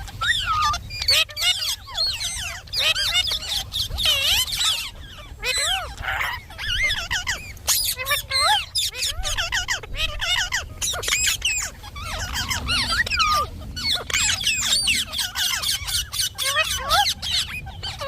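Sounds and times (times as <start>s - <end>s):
parakeet squawks and whistles: 0.0s - 18.0s.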